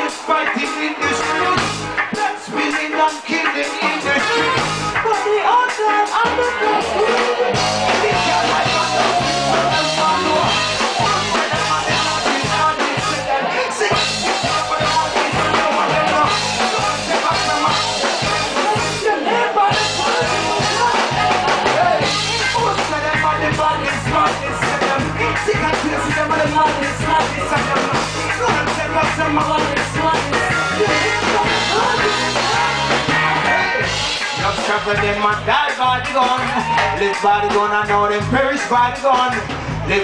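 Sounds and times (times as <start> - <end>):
live reggae band: 0.0 - 40.0.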